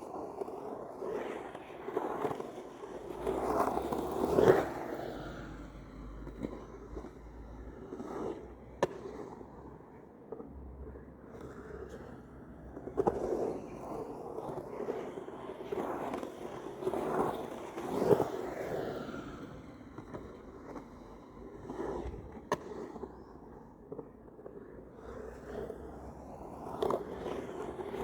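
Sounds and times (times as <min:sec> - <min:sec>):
skateboard clacks: 0:00.0 - 0:10.5, 0:11.2 - 0:28.0
skateboard wheels rolling: 0:00.0 - 0:28.0.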